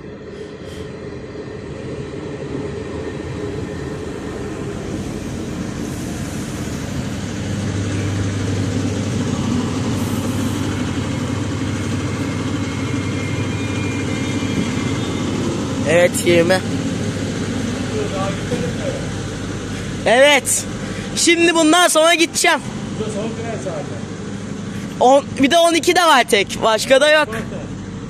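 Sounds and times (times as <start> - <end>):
low engine drone: 0.0 - 28.0
train rumble: 0.0 - 28.0.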